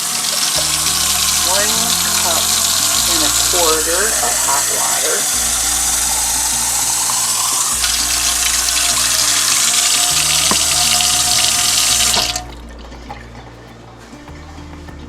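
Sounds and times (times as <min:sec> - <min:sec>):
tap running water: 0:00.0 - 0:13.4
background music: 0:00.0 - 0:15.0.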